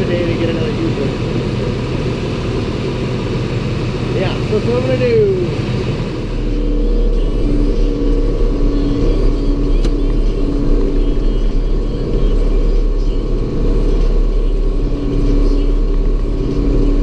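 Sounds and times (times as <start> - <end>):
engine running with low rumble: 0.0 - 17.0.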